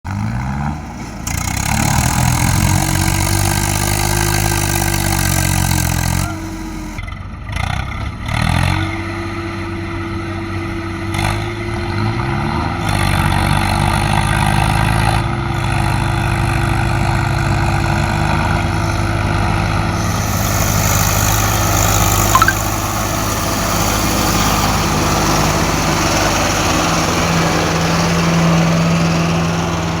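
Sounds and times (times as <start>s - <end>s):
tractor diesel engine revving: 0.1s - 30.0s.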